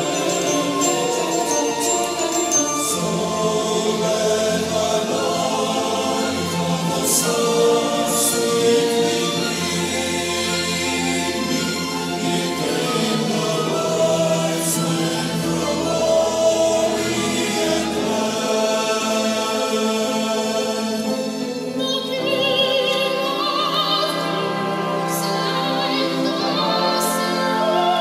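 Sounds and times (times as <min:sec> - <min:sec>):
mixed choir singing: 0:00.0 - 0:28.0.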